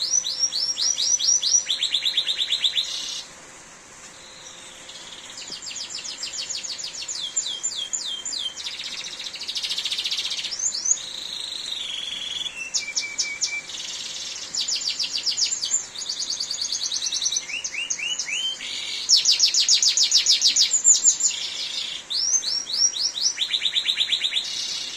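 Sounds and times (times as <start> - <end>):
canary singing trills: 0.0 - 3.3, 4.2 - 24.9
faint rain hiss: 0.0 - 24.9.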